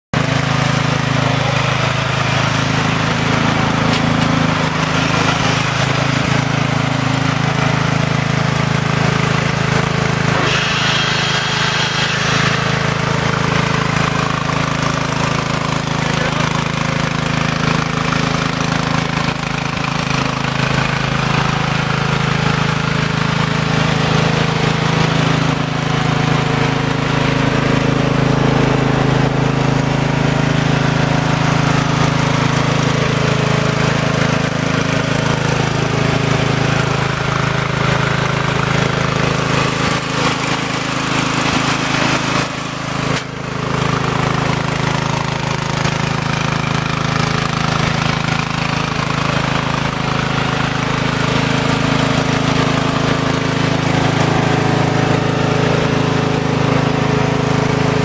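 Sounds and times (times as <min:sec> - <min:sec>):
lawn mower engine running: 0:00.1 - 0:58.0.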